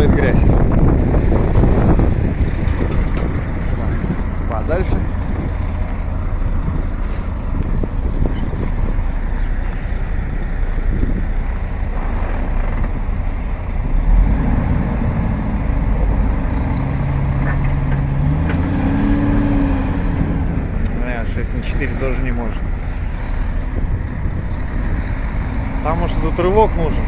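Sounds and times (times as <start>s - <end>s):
truck diesel engine revving: 0.0s - 27.0s.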